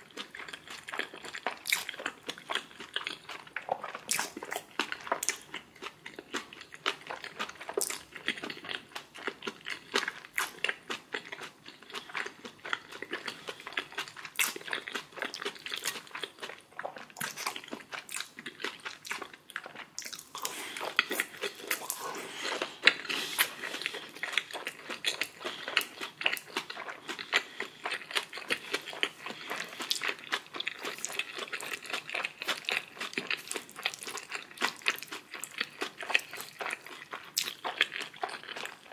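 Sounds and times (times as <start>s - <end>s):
person chewing and biting food: 0.0s - 38.9s.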